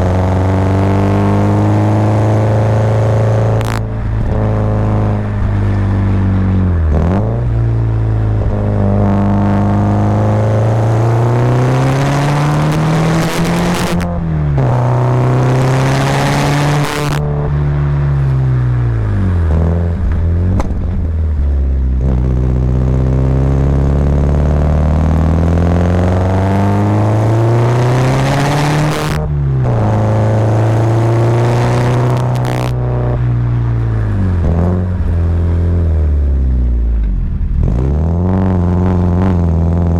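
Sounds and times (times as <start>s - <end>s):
turbocharged car engine revving: 0.0s - 39.9s.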